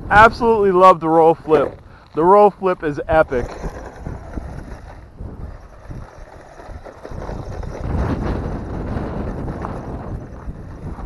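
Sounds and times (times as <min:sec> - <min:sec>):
wind on microphone: 0:00.0 - 0:11.0
rc truck motor and tyres: 0:01.2 - 0:11.0.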